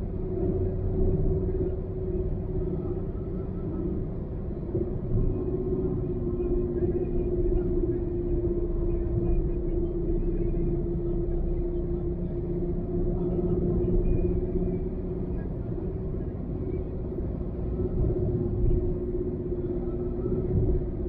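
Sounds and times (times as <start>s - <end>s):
car engine and tyres rumbling: 0.0s - 21.0s
constant low hum: 0.0s - 21.0s.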